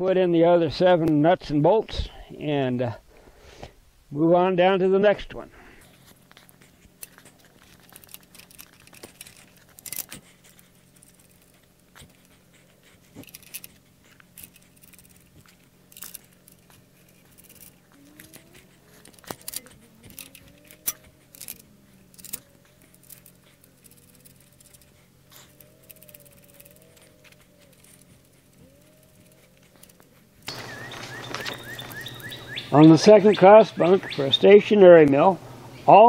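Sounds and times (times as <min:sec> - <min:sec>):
faint wavering whine: 0:00.2 - 0:36.0.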